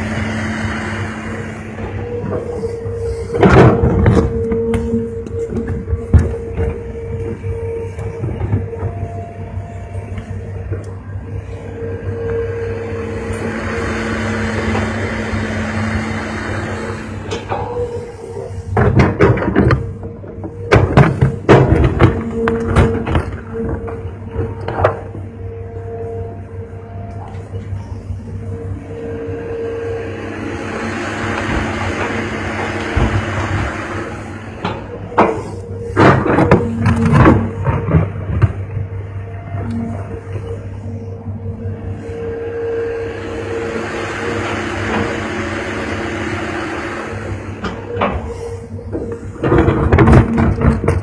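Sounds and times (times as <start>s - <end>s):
diesel machinery droning: 0.0s - 51.0s
excavator engine running: 0.0s - 51.0s.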